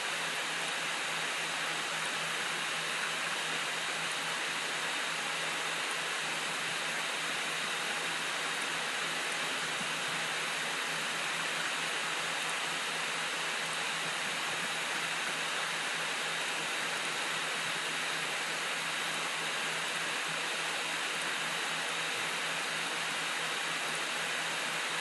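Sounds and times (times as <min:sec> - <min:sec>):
recording hiss: 0:00.0 - 0:25.0.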